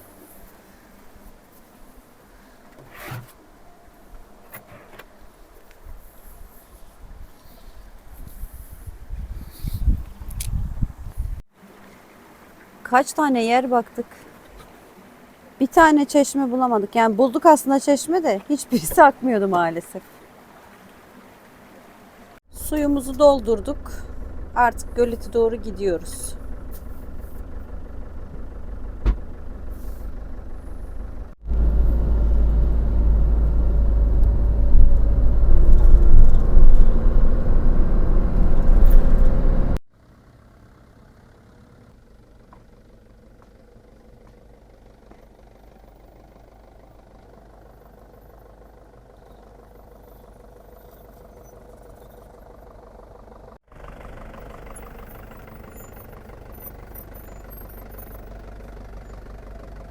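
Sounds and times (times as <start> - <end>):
motorhome engine and road noise: 0.0 - 59.9.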